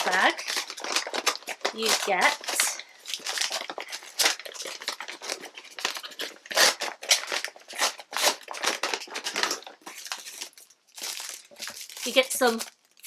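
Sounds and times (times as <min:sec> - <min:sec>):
paper bag crinkling: 0:00.0 - 0:13.0.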